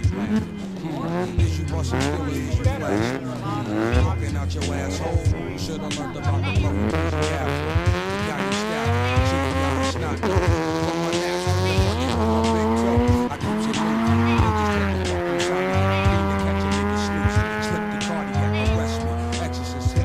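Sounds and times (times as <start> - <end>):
car engine revving: 0.0 - 20.0
hip hop beat with heavy bass: 0.0 - 20.0.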